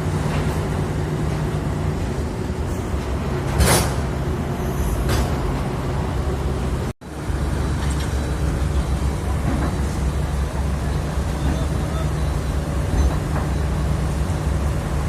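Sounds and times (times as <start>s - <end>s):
diesel engine running at low revs: 0.0s - 15.0s.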